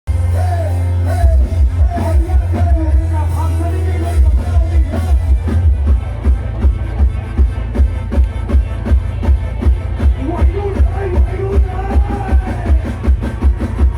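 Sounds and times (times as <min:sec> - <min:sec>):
loud bass-heavy music with singing: 0:00.1 - 0:13.9.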